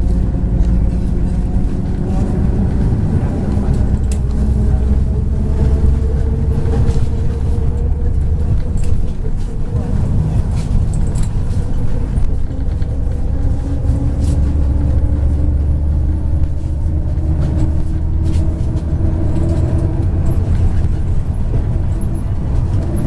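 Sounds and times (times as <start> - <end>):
bus engine and road rumble: 0.0 - 23.0
drivetrain whine: 0.0 - 23.0.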